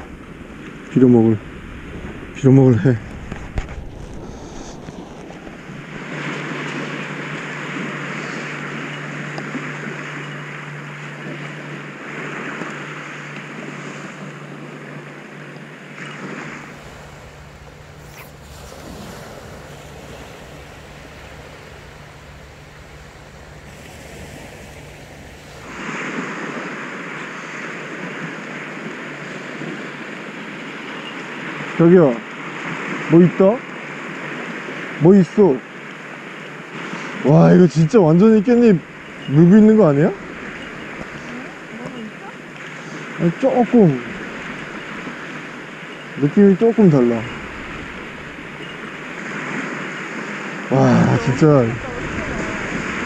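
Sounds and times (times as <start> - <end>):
wind rumble on microphone: 0.0 - 31.8, 36.1 - 43.2, 43.8 - 53.0
waves washing on sand: 0.0 - 53.0.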